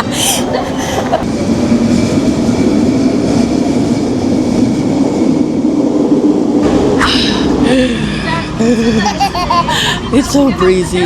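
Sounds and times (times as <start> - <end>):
train rumble with motor hum: 0.0 - 11.0.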